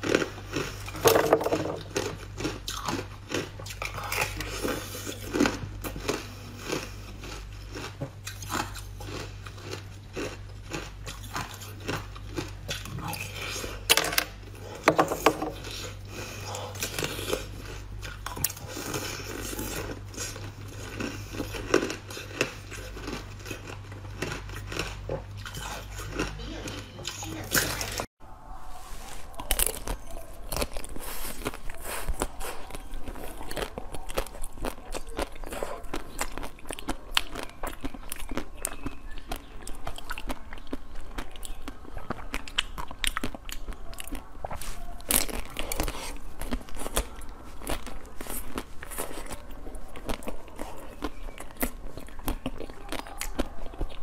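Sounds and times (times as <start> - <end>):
ice crunching as it is chewed: 0.0 - 28.1, 29.1 - 54.0.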